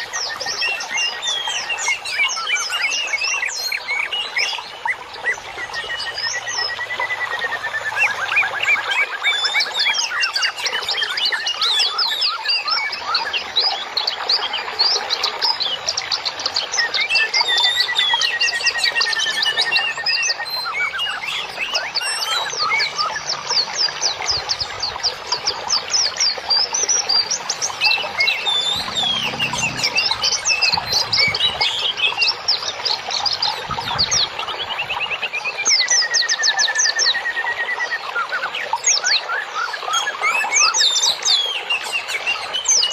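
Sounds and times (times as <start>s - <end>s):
songbird chorus: 0.0s - 37.6s.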